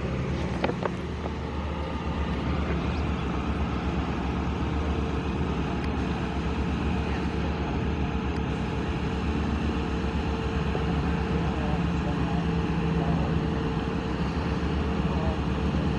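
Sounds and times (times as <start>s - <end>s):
engine running: 0.0s - 15.9s.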